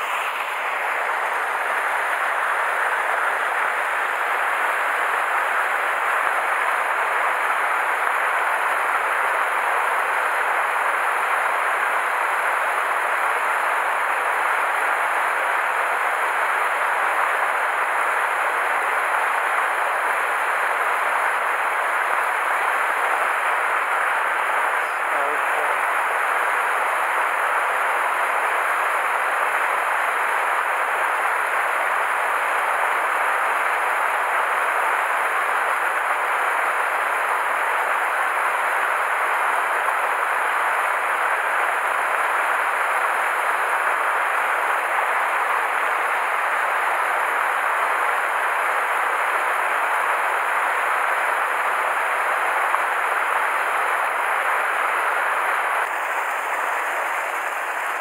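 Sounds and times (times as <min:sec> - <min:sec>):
stream water rushing over rocks: 0:00.0 - 0:58.0.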